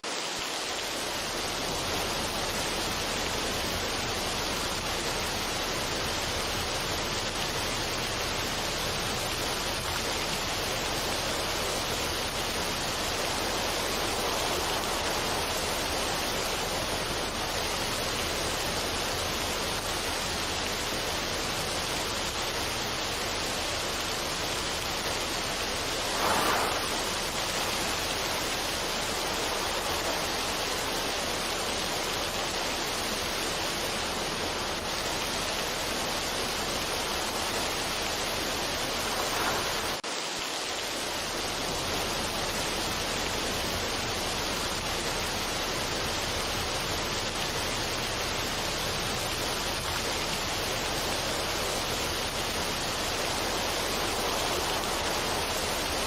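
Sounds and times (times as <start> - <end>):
steady rushing noise: 0.0 - 42.6, 47.4 - 56.0.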